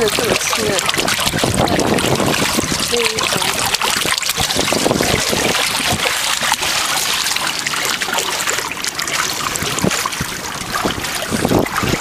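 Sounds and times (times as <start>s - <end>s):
water splashing along hull: 0.0s - 12.0s.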